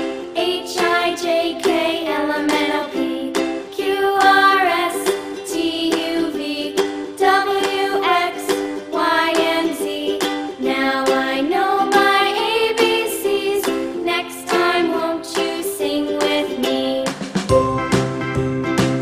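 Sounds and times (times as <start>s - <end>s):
children's song with singing voice: 0.0s - 18.1s.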